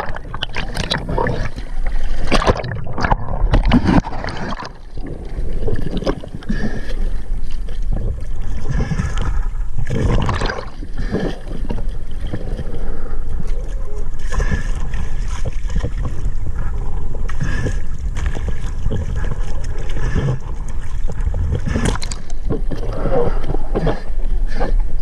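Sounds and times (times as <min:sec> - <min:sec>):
water splashing and gurgling: 0:00.0 - 0:25.0.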